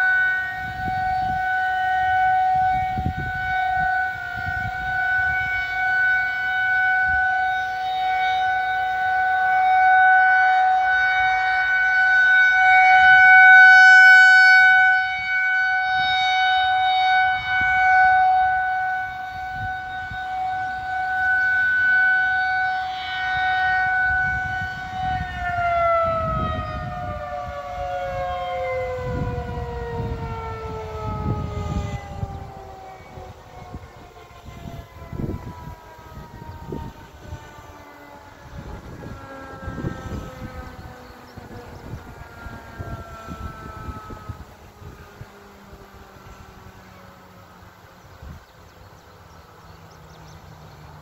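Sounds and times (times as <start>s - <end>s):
siren sounding steady tone: 0.0s - 51.0s.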